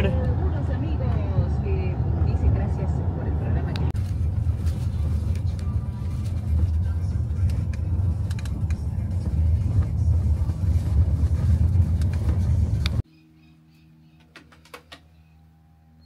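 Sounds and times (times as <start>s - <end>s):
tractor engines rumbling: 0.0s - 13.0s.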